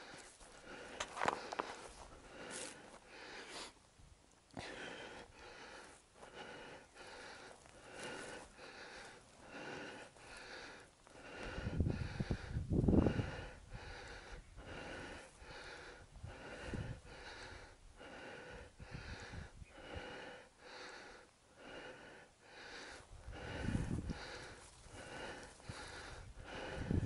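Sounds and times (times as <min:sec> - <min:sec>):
heavy fast breathing: 0:00.0 - 0:03.8, 0:04.5 - 0:27.0.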